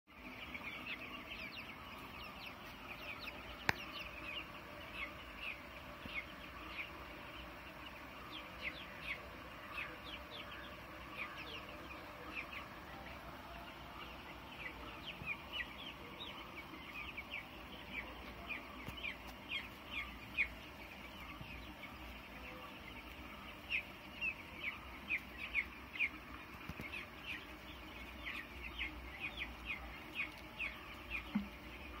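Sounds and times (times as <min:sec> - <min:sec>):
chicks peeping: 0:00.1 - 0:32.0.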